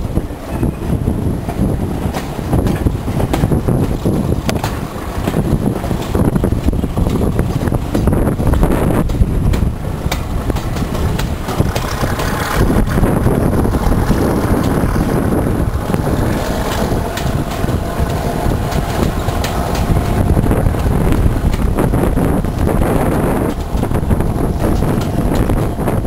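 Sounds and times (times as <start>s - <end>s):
train running rumble: 0.0s - 26.0s
wheels clicking over rail joints: 0.0s - 26.0s
wind buffeting microphone: 0.0s - 26.0s.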